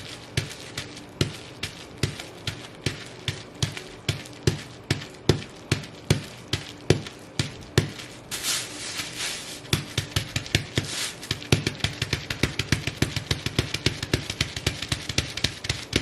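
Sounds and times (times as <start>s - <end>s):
bubble wrap popping: 0.0s - 16.0s
plastic crackling and crumpling: 0.0s - 16.0s.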